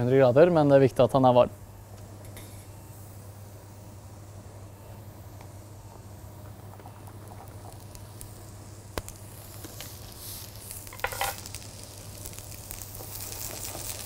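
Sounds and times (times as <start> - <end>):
vegetables sizzling in oil: 2.2 - 14.0.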